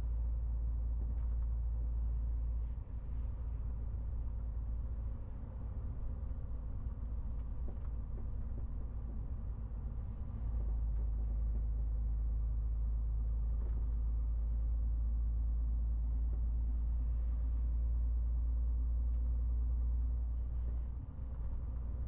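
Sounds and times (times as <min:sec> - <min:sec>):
truck diesel engine and road rumble: 0:00.0 - 0:22.0.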